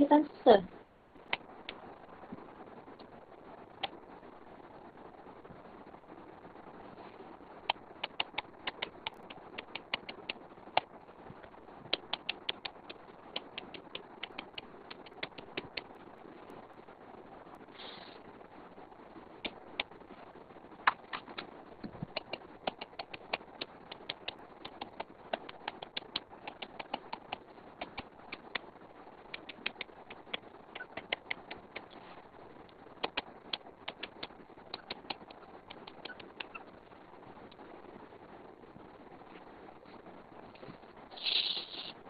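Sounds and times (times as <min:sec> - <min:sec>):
faint hiss: 0:00.0 - 0:42.0.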